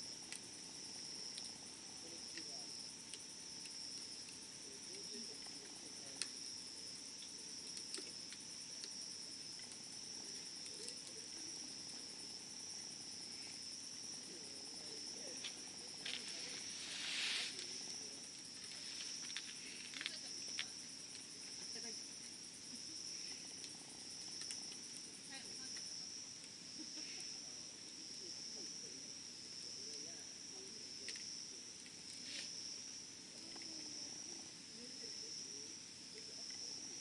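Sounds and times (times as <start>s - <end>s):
campfire crackling and popping: 0.0s - 37.0s
high-pitched insect chorus: 0.0s - 37.0s.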